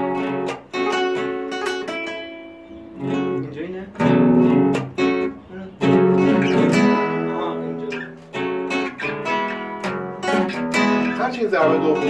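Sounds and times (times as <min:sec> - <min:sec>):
acoustic guitars strumming chords: 0:00.0 - 0:12.0.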